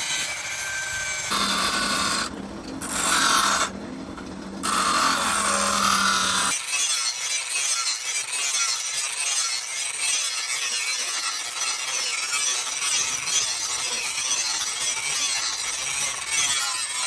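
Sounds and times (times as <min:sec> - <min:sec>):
metal rasping by abrasion: 0:00.0 - 0:17.0.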